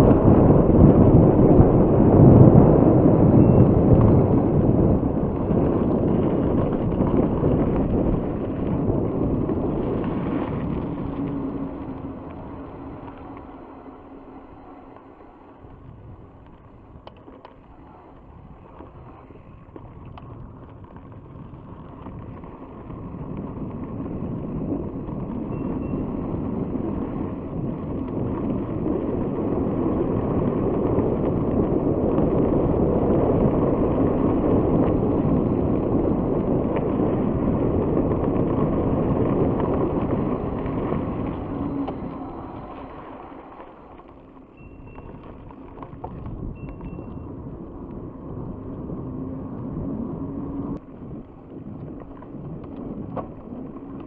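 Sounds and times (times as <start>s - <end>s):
bike tyres rumbling on gravel: 0.0s - 54.0s
wind rushing over microphone: 0.0s - 54.0s.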